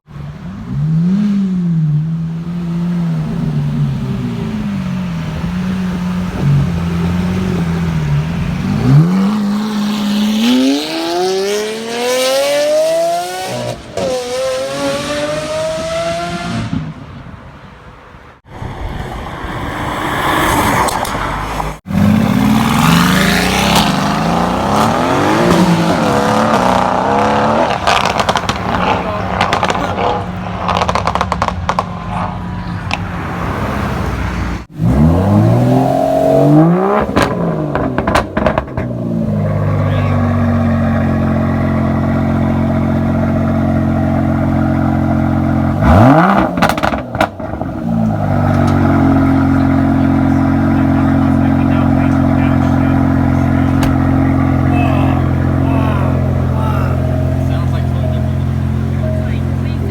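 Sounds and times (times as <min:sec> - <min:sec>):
car engine revving and idling: 0:00.0 - 0:17.3, 0:19.8 - 0:59.9.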